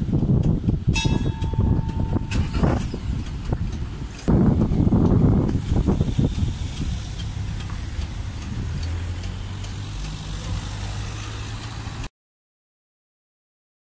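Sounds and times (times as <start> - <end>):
car engines idling: 0.0 - 12.1.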